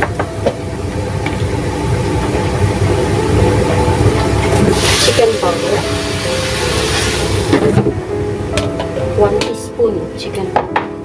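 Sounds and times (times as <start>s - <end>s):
motor low rumble: 0.0s - 10.1s.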